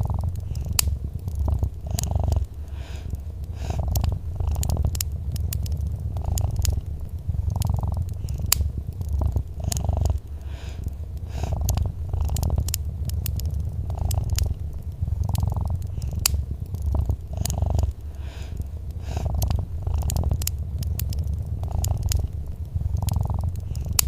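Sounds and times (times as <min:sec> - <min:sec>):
cat purring: 0:00.0 - 0:24.0
wood fire crackling: 0:00.0 - 0:24.0.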